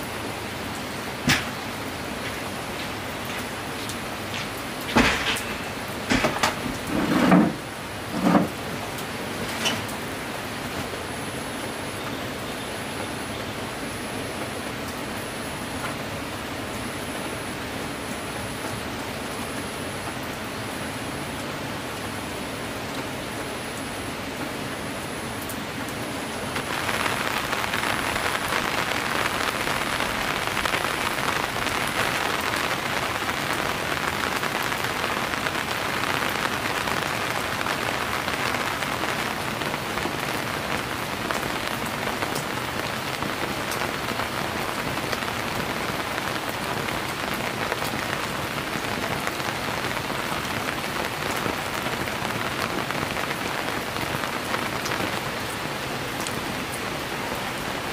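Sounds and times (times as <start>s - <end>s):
rain pattering: 0.0s - 57.9s.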